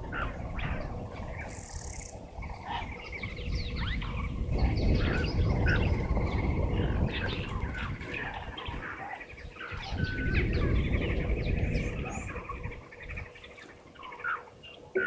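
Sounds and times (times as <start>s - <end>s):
low rumble: 0.0s - 13.2s
bird chirps and calls: 0.0s - 15.0s.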